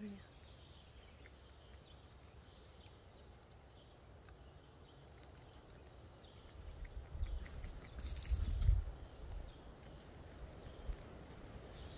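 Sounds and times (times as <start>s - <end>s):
squirrel gnawing a nut: 0.1s - 11.9s.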